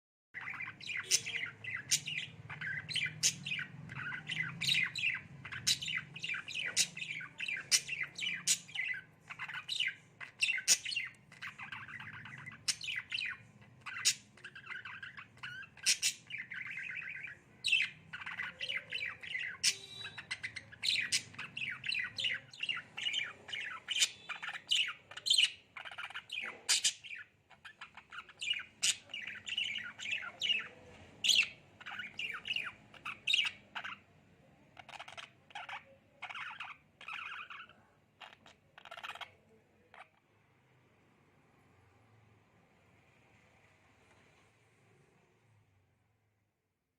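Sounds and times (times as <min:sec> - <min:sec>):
budgerigar chattering: 0:00.4 - 0:34.1, 0:34.8 - 0:40.2.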